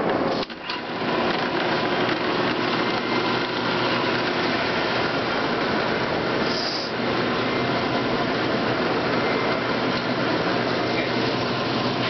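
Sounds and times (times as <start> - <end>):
electric motor running: 0.8 - 12.0.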